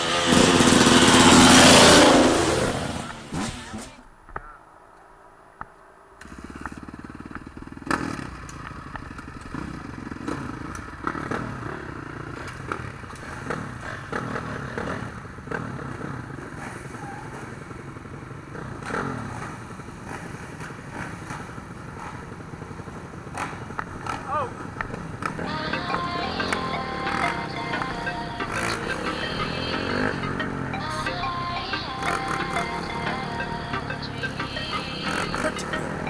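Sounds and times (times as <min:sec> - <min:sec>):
dirt bike engines revving: 0:00.0 - 0:04.6, 0:05.6 - 0:36.0.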